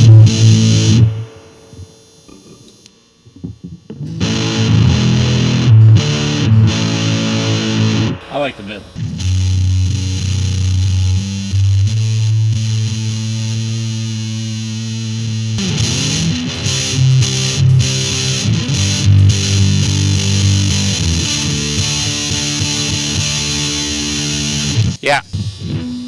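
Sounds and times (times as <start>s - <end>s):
distorted electric guitar chords: 0.0s - 25.0s.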